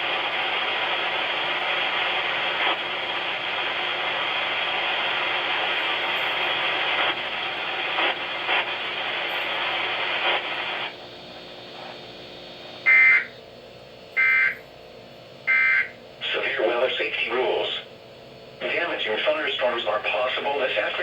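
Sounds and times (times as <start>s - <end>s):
weather radio static hiss: 0.0s - 13.3s, 16.2s - 18.0s, 18.6s - 21.0s.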